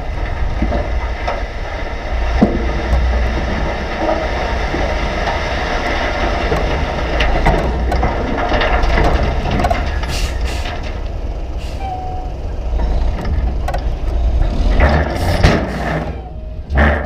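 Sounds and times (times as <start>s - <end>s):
diesel engine running: 0.0s - 17.0s
dirt and rocks sliding and clattering: 0.0s - 17.0s.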